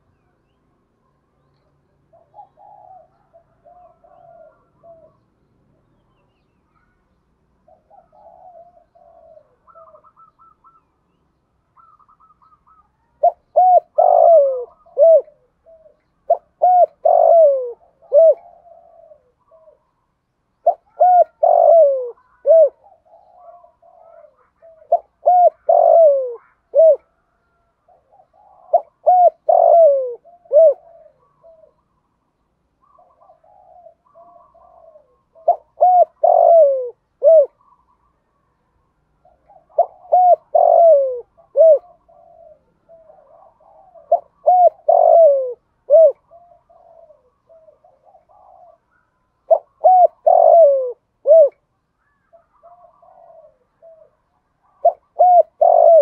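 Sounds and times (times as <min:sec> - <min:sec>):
dove cooing: 0:01.0 - 0:05.4, 0:06.7 - 0:11.0, 0:11.7 - 0:56.0.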